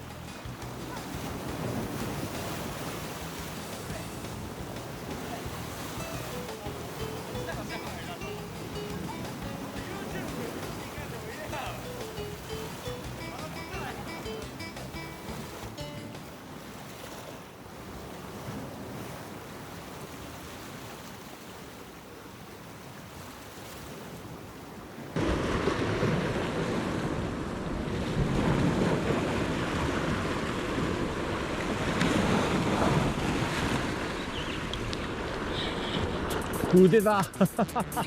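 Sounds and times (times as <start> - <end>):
sea waves washing against rocks: 0.0 - 37.1.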